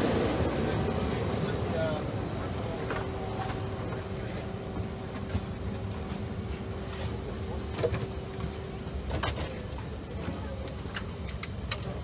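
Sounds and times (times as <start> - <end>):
aircraft cabin hum: 0.0 - 12.0
faint passenger voices: 0.0 - 12.0.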